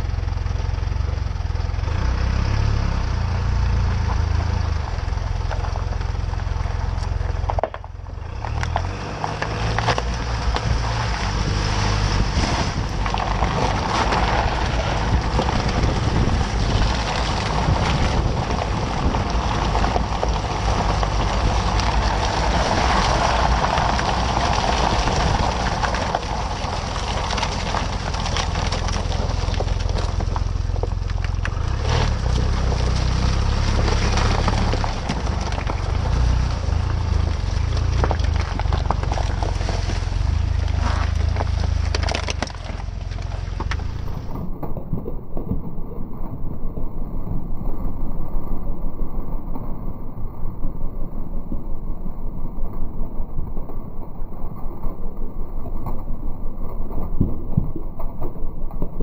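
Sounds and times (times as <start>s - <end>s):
tyres crunching over snow: 0.0s - 59.0s
vehicle engine rumbling: 0.0s - 59.0s.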